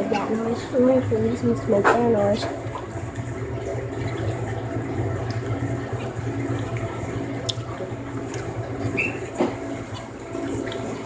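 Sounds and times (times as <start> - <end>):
running water noise: 0.0 - 11.0.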